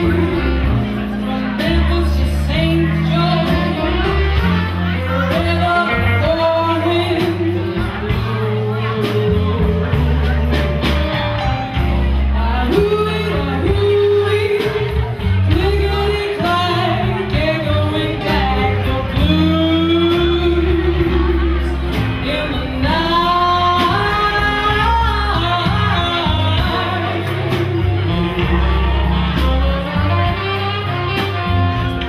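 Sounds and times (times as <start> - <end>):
woman singing: 0.0 - 11.2, 12.3 - 29.2
drum kit: 0.0 - 32.0
electric guitar: 0.0 - 32.0.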